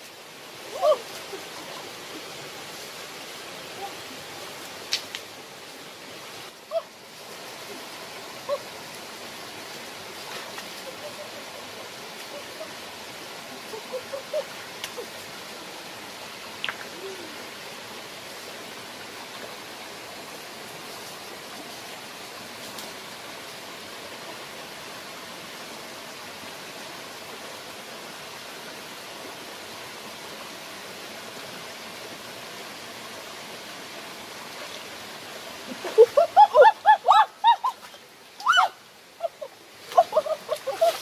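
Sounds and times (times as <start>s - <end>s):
stream flowing: 0.0s - 41.0s.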